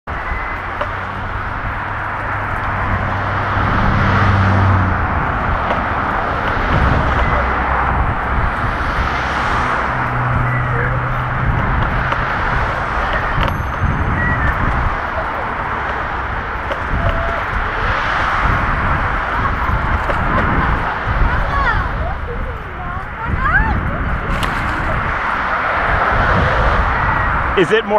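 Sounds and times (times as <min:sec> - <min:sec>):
wind: 0:00.0 - 0:27.9
scooter wheels rolling on pavement: 0:00.1 - 0:27.9.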